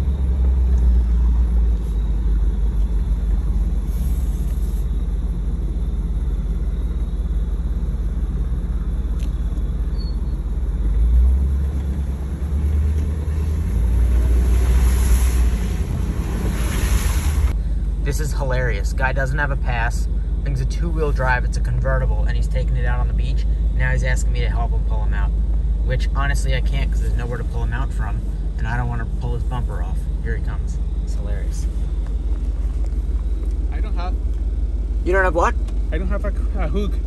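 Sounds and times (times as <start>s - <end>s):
vehicle rumbling over sandy track: 0.0s - 37.0s.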